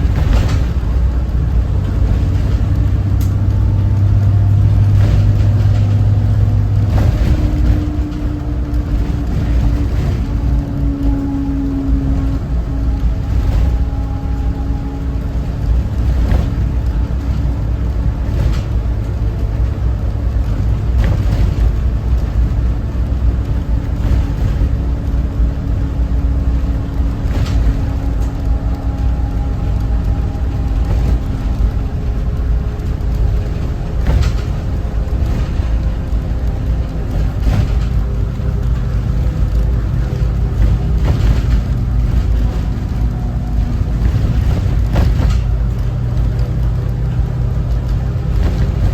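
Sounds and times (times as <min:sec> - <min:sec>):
bus diesel engine rumble: 0:00.0 - 0:48.9
sharp knocks and rattles: 0:00.0 - 0:48.9.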